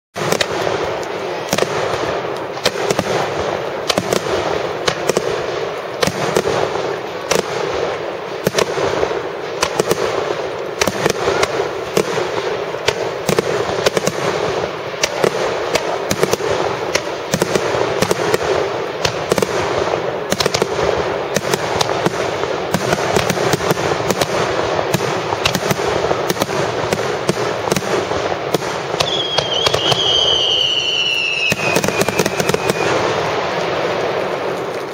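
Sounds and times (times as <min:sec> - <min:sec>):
fireworks bangs: 0:00.1 - 0:34.9
fireworks crackle: 0:00.2 - 0:34.9.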